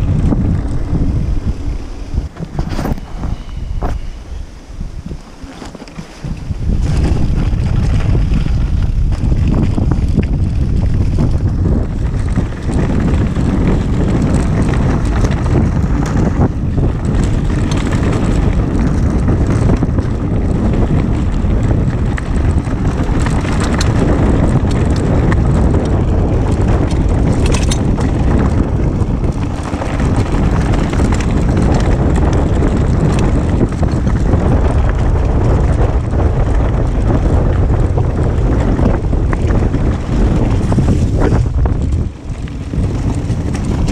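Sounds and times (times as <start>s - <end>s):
bike tyres and frame rattling: 0.0s - 43.9s
wind buffeting microphone: 0.0s - 43.9s.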